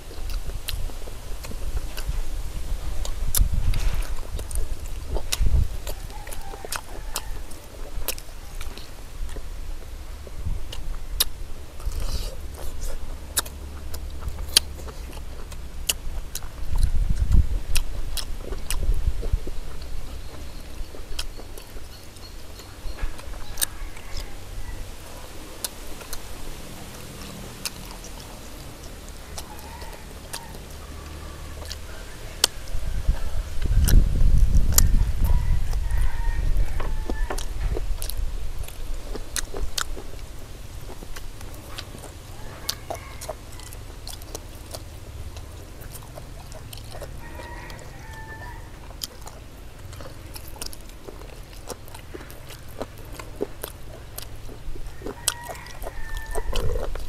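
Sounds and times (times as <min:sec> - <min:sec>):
people chewing: 0:00.0 - 0:57.0.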